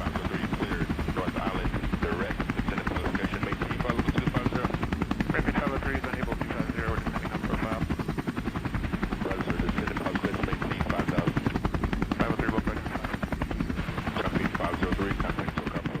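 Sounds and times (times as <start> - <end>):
helicopter rotor chopping: 0.0 - 16.0.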